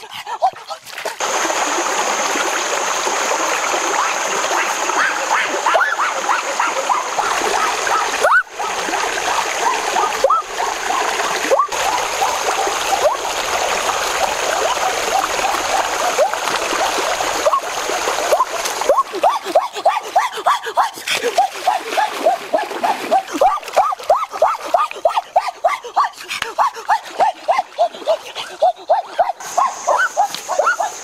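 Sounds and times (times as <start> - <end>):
stream rushing over rocks: 0.0 - 31.0
water bubbling plops: 0.9 - 30.8.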